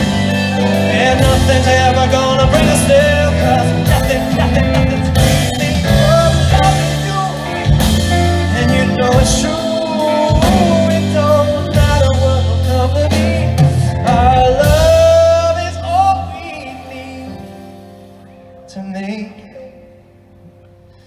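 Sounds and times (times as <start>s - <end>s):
man singing into microphone: 0.0s - 17.7s, 18.6s - 20.1s
grand piano: 0.0s - 21.0s
guitar: 0.0s - 21.0s
keyboard: 0.0s - 21.0s.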